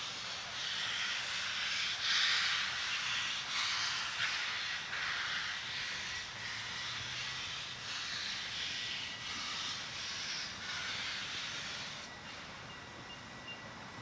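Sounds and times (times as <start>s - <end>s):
steam locomotive chuffing: 0.0s - 13.1s.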